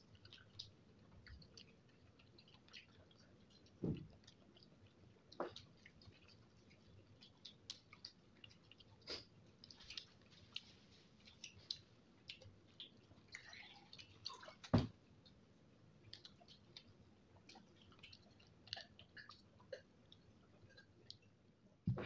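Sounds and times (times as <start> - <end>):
person chewing and lip smacking: 0.0 - 15.4, 16.0 - 21.4.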